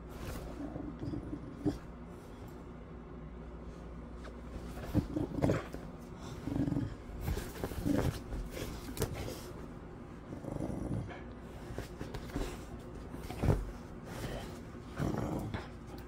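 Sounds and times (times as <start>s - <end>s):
dog growling playfully: 0.2s - 2.4s, 4.6s - 9.6s, 10.2s - 16.0s.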